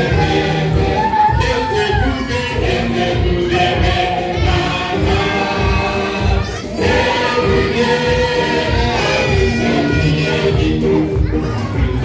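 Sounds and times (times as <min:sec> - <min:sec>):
gospel choir singing with band: 0:00.0 - 0:12.0.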